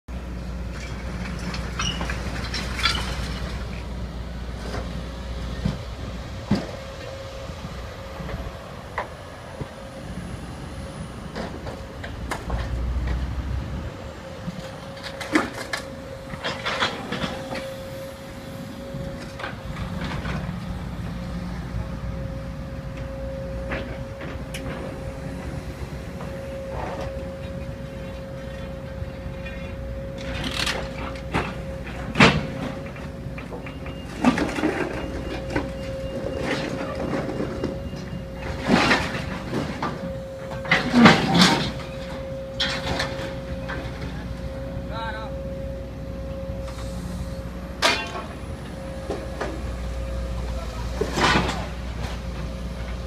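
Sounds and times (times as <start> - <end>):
heavy machinery rumbling: 0.1 - 53.0.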